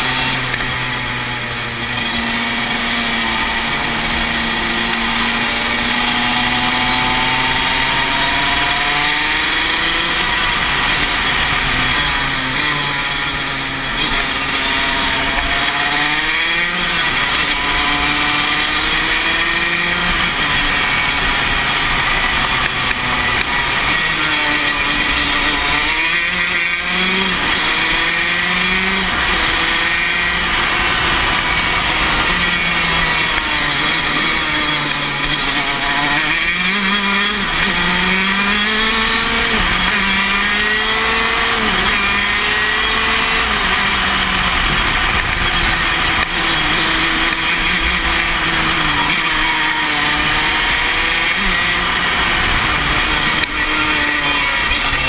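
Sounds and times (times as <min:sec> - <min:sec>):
kart two-stroke engine racing: 0:00.0 - 0:55.0.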